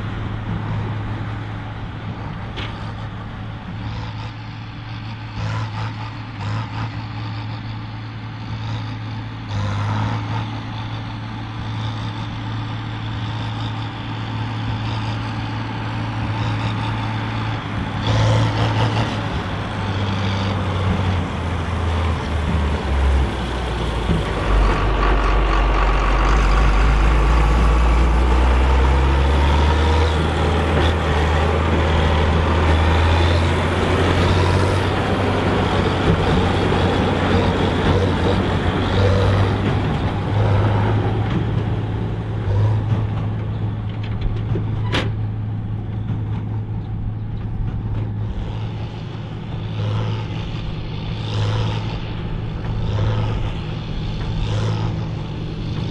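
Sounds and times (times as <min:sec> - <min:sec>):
tractor diesel engine running hard: 0:00.0 - 0:55.9.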